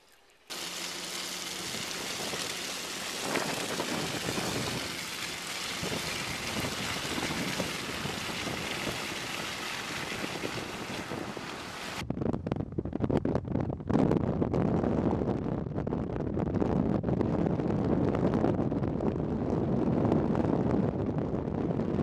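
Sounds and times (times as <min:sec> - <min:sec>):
wind buffeting microphone: 0:00.6 - 0:22.0.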